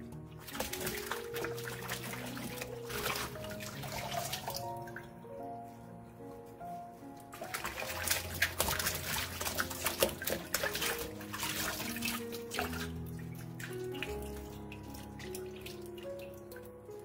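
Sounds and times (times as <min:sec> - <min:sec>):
background music: 0:00.0 - 0:17.0
water splashing in a bowl: 0:00.2 - 0:05.1, 0:07.3 - 0:17.0.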